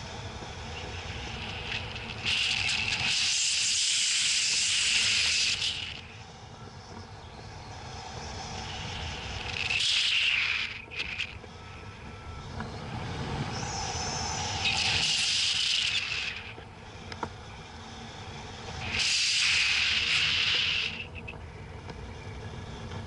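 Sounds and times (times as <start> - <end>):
wind rushing past camera: 0.0 - 23.0.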